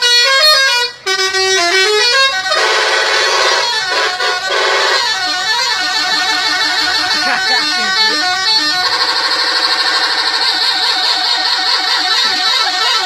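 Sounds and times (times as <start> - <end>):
multi-tone musical bus horns: 0.0 - 13.0.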